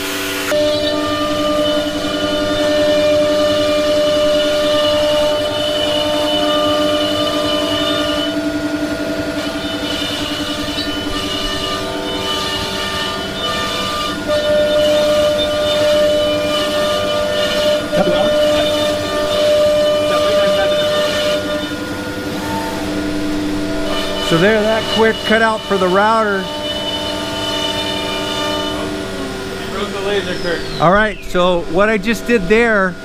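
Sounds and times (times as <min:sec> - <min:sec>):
cnc router spindle whine: 0:00.0 - 0:33.0.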